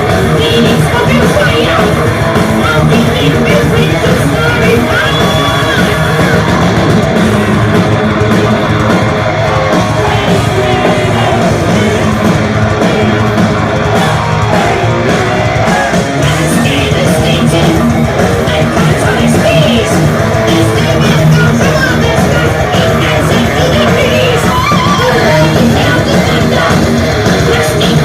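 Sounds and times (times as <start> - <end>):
distorted electric guitars: 0.0 - 28.0
drums: 0.0 - 28.0
heavy metal band playing live: 0.0 - 28.0
person singing: 0.0 - 28.0.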